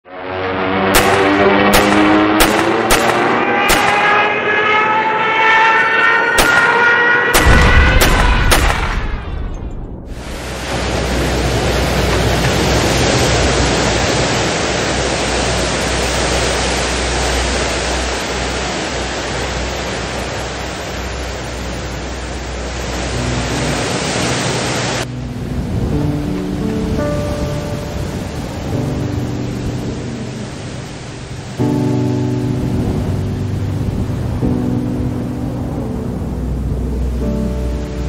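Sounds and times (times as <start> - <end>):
loud rushing noise: 0.1 - 35.4.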